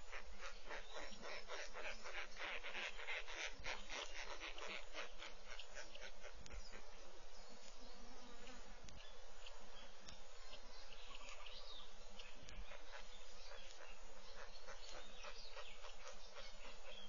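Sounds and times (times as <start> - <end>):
faint bird chirps: 0.0 - 17.0
insects droning: 0.0 - 17.0.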